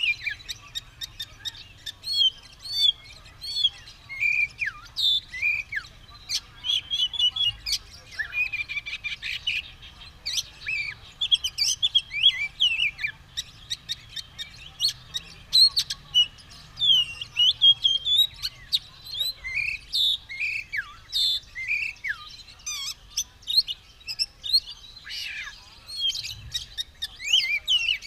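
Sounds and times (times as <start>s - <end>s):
magpie-robin singing: 0.0s - 28.0s.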